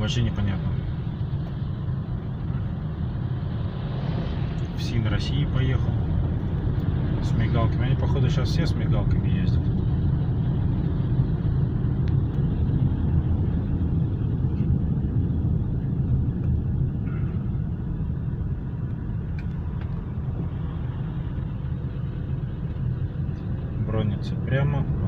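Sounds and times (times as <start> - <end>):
car engine rumble: 0.0 - 25.0
tyres on road: 0.0 - 25.0.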